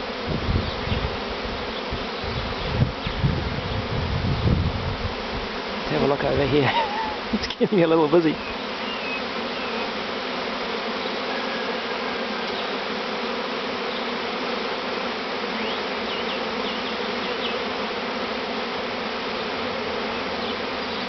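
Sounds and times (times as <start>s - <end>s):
honeybee swarm buzzing: 0.0s - 21.0s.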